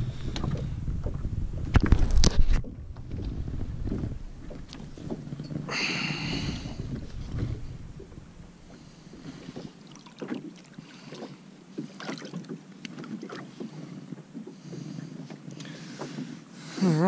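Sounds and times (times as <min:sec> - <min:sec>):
water splashing and lapping: 0:00.0 - 0:17.0.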